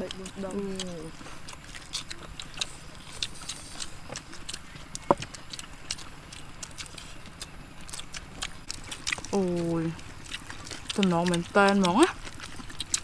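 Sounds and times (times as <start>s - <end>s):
wet chewing and lip-smacking: 0.0s - 13.0s.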